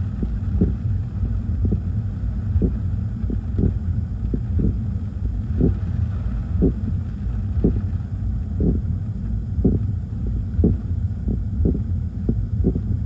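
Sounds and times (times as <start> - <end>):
wind and rain on a car: 0.0 - 13.0.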